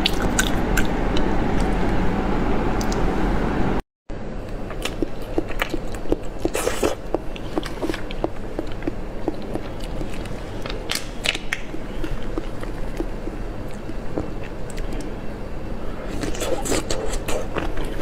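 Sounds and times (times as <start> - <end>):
close-miked chewing: 0.0 - 1.8, 4.5 - 15.2, 16.0 - 18.0.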